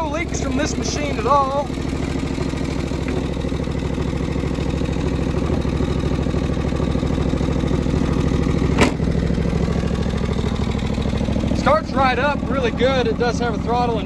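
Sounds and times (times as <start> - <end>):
lawn tractor engine running: 0.0 - 14.0.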